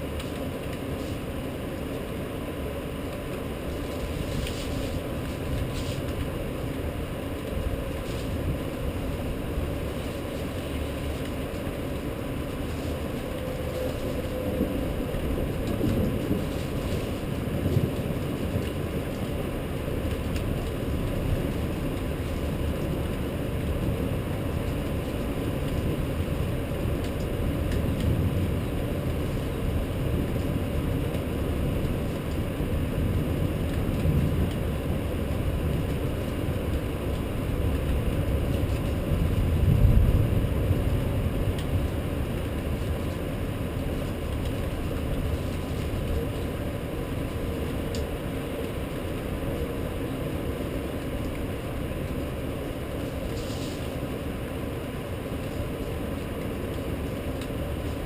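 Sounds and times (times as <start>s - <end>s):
rainstorm rumble: 0.0s - 58.0s.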